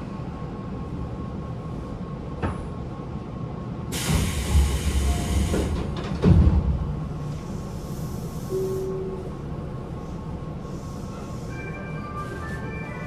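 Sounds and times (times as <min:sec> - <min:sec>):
train wheels rumbling on rail: 0:00.0 - 0:12.7
air conditioning running: 0:00.0 - 0:13.0.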